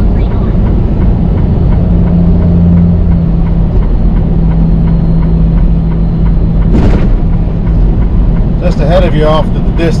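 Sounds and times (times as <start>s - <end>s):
truck engine drone in cab: 0.0s - 10.0s.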